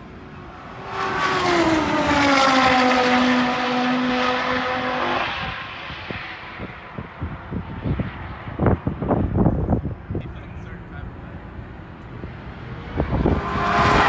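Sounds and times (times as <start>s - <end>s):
race cars passing at full throttle: 0.0s - 14.0s.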